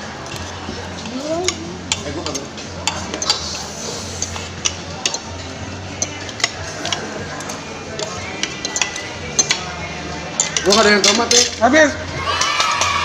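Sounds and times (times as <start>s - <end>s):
cutlery scraping against plates: 0.0s - 11.8s
busy restaurant background noise: 0.0s - 13.0s.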